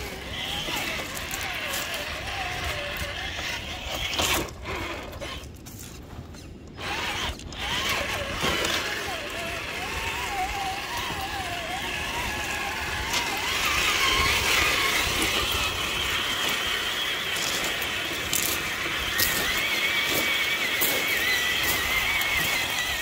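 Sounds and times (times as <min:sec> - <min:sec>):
electric motor whine: 0:00.0 - 0:05.9, 0:06.7 - 0:23.0.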